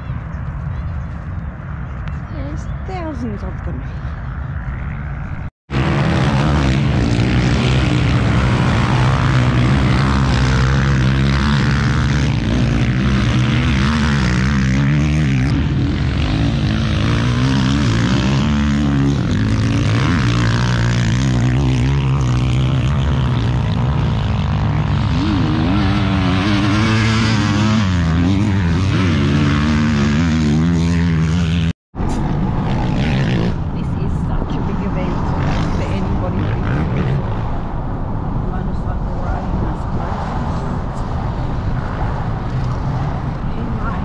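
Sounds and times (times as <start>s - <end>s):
engine drone: 0.0s - 44.0s.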